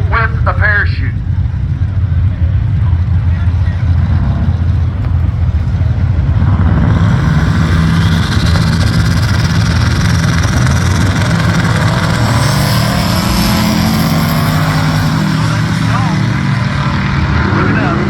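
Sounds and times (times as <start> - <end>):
drag racing cars at full throttle: 0.0 - 18.0.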